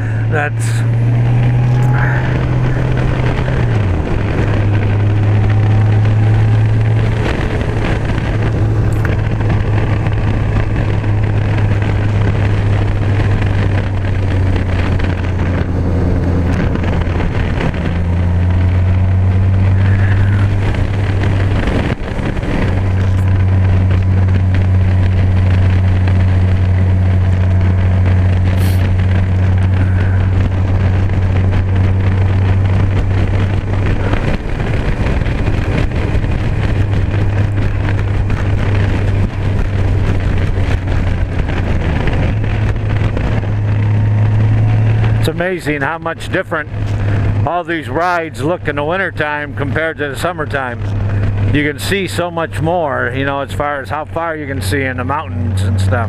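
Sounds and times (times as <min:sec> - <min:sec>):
motorcycle engine hum: 0:00.0 - 0:56.0
rushing wind: 0:00.0 - 0:56.0.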